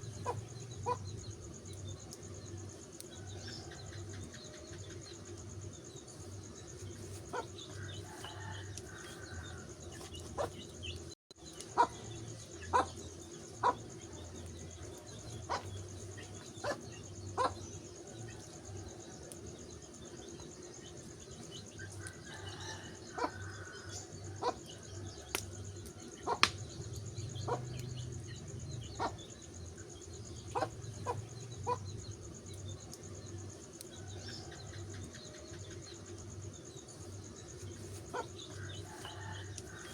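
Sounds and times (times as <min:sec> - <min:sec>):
high insect drone: 0:00.0 - 0:39.9
wood fire crackling: 0:00.1 - 0:17.1, 0:24.0 - 0:39.9.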